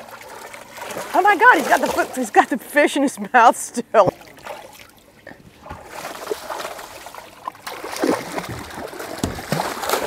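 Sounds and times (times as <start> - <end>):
water splashing against boat hull: 0.0 - 3.3, 4.0 - 10.0.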